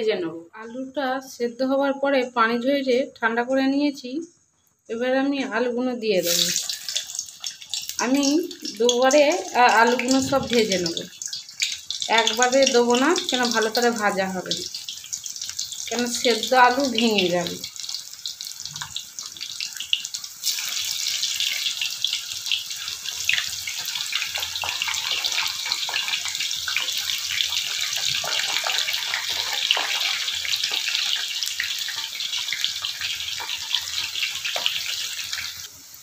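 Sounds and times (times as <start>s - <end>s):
potatoes sizzling in hot oil: 6.2s - 36.0s.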